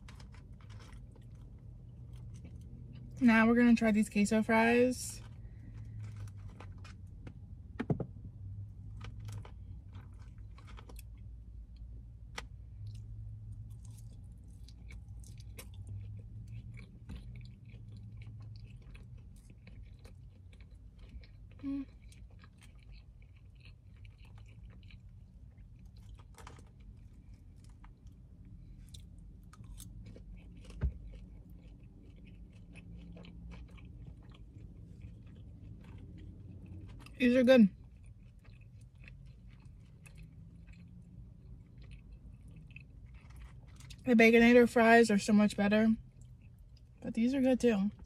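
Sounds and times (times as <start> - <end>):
person chewing food: 0.0 - 3.2, 5.2 - 7.7, 8.6 - 44.0, 46.0 - 47.0
low steady hum: 0.0 - 48.0.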